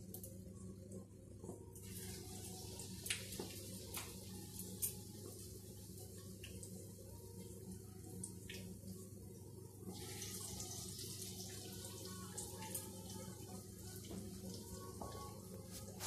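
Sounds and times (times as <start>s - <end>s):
batter deep-frying in oil: 0.0s - 16.0s.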